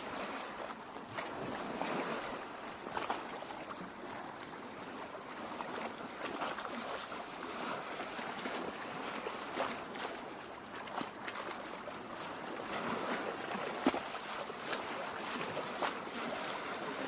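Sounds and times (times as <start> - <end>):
water lapping against shore: 0.0 - 17.0.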